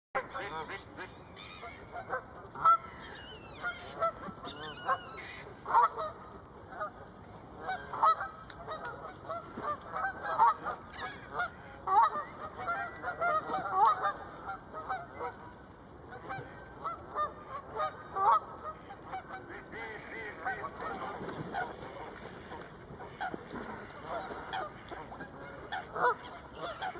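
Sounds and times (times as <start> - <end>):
geese honking: 0.2 - 7.0, 7.6 - 26.9.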